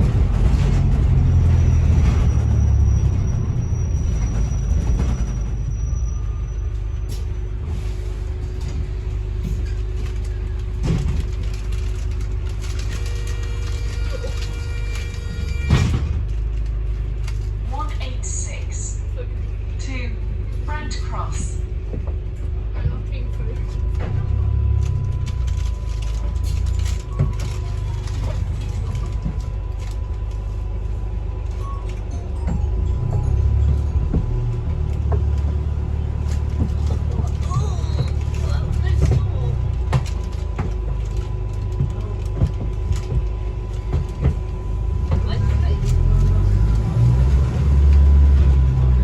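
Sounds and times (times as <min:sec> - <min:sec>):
bus interior low rumble: 0:00.0 - 0:49.0.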